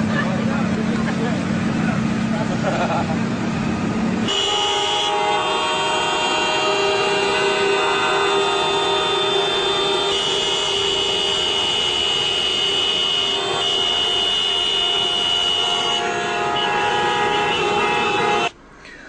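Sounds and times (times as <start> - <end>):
vehicles idling: 0.0 - 19.0.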